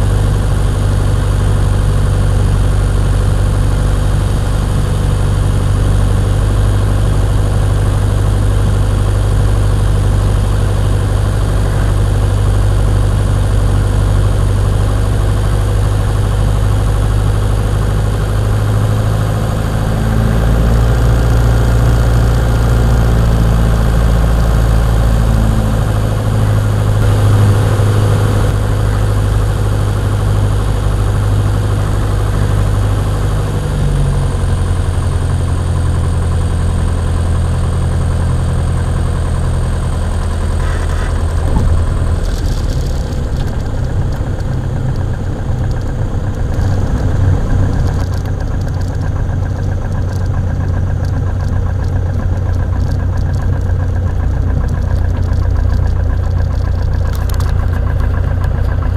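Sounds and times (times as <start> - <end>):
airplane engine running: 0.0 - 58.9
wheels rumbling on runway: 0.0 - 58.9.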